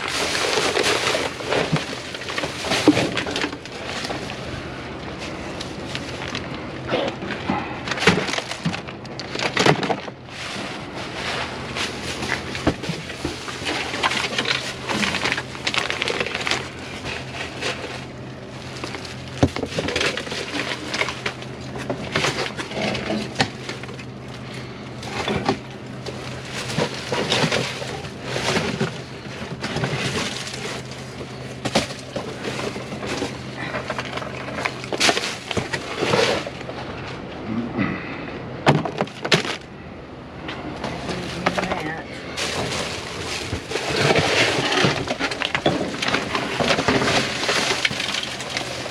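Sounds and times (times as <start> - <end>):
items knocking and clattering: 0.0 - 4.4, 5.2 - 24.2, 25.0 - 36.8, 38.6 - 39.6, 40.8 - 48.9
plastic bags crinkling: 0.0 - 6.6, 7.9 - 36.7, 42.4 - 48.9
steady low hum: 0.0 - 48.9.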